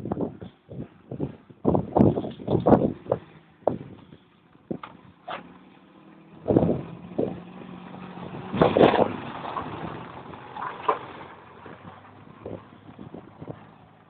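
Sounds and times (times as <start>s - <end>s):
car engine running: 1.7s - 14.0s.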